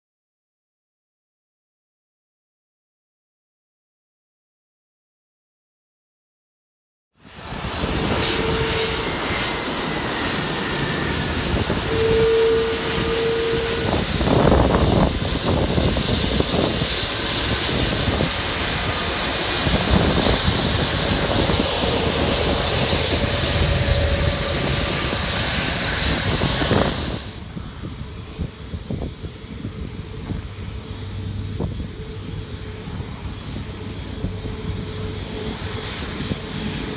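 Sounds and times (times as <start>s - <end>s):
jet engines whining: 7.2s - 36.9s.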